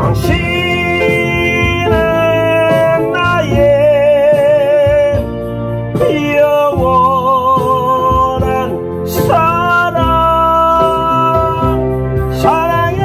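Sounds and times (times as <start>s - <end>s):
man singing a slow ballad: 0.0s - 13.0s
piano accompaniment: 0.0s - 13.0s.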